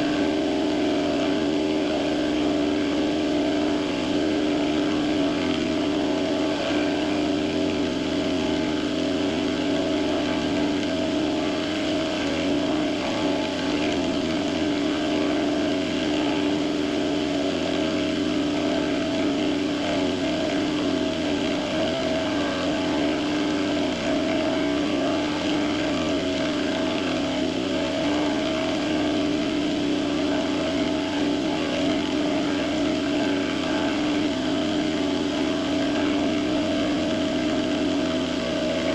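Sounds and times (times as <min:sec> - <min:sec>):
machine tool motor hum: 0:00.0 - 0:38.9.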